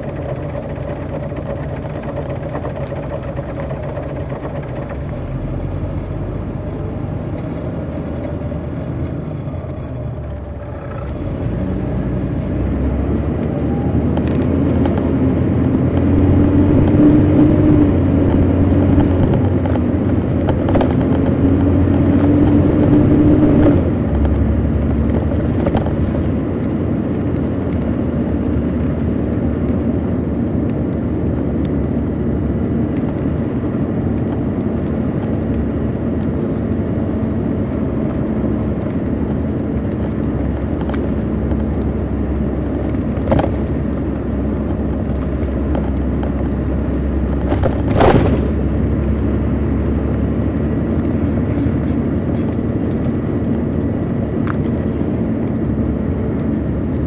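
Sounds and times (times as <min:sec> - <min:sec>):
coach diesel engine drone: 0:00.0 - 0:57.0
rising whine: 0:04.7 - 0:57.0.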